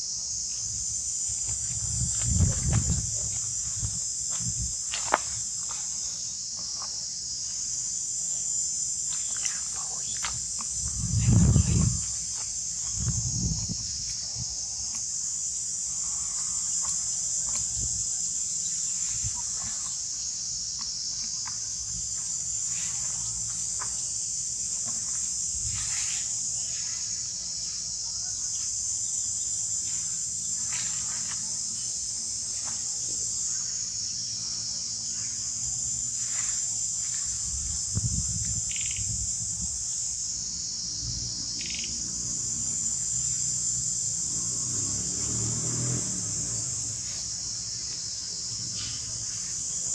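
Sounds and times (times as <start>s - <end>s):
high-pitched insect drone: 0.0s - 49.9s.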